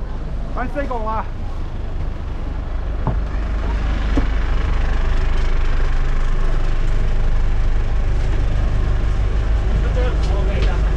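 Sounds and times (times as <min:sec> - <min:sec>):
boat engine running: 0:00.0 - 0:10.9.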